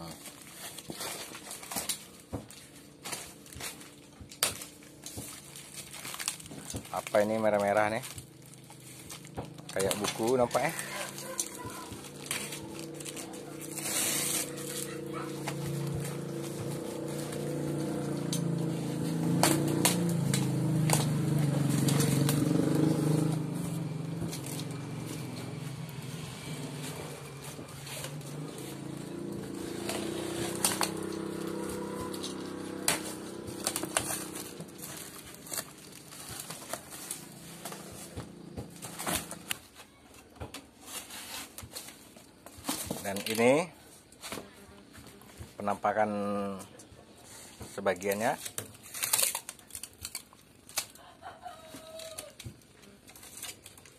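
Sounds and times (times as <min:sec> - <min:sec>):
cardboard and tape ripping: 0:00.0 - 0:45.8, 0:47.4 - 0:53.9.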